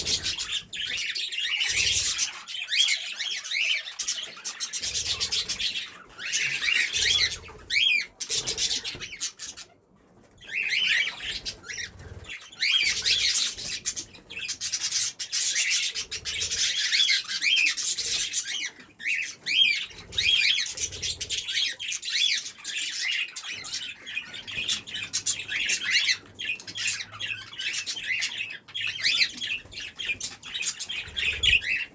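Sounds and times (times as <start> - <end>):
parakeets chirping and chattering: 0.0 - 31.9.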